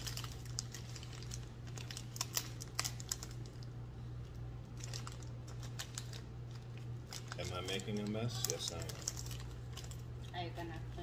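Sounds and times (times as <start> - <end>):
plastic wrapper crackling: 0.0 - 10.6
steady low hum: 0.0 - 11.0.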